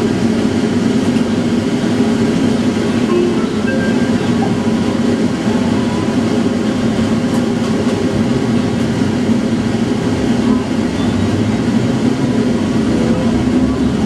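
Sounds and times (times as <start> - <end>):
tram humming: 0.0 - 14.0.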